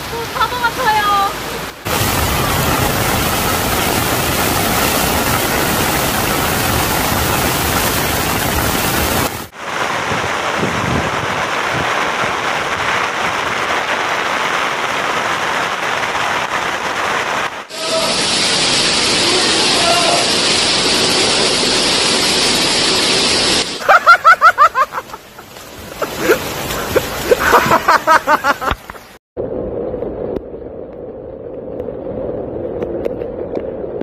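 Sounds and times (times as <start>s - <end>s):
heavy rain: 0.0s - 29.2s
rushing floodwater: 0.0s - 29.2s.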